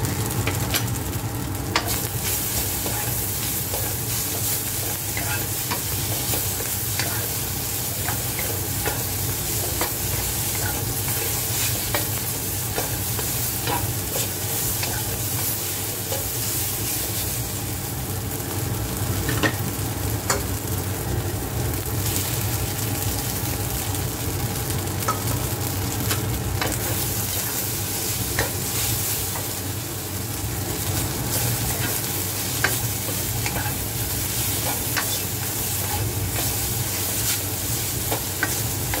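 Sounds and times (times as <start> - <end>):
food sizzling in a wok: 0.0 - 39.0.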